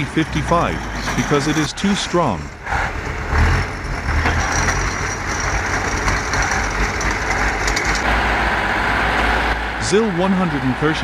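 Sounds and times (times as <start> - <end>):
heavy vehicle engines rumbling: 0.0 - 11.0.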